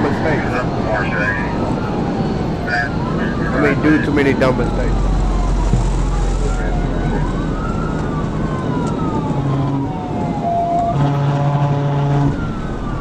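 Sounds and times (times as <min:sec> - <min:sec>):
car engine and road noise: 0:00.0 - 0:13.0
police siren wailing: 0:00.0 - 0:13.0
steady low tone: 0:00.0 - 0:13.0.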